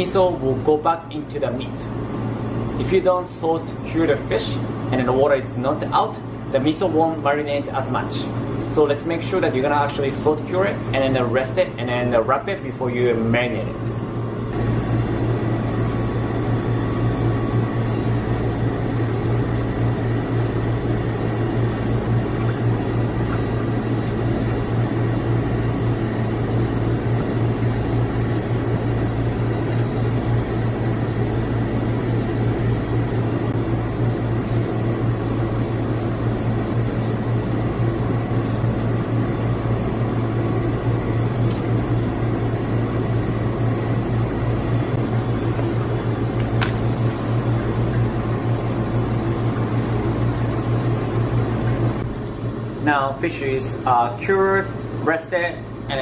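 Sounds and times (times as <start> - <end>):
kitchen equipment humming: 0.0 - 56.0.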